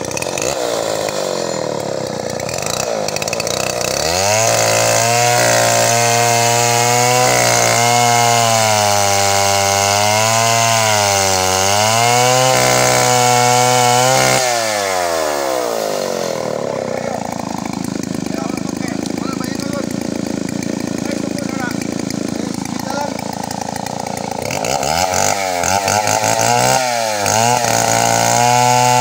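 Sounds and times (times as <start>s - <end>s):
chainsaw engine revving: 0.0s - 29.0s.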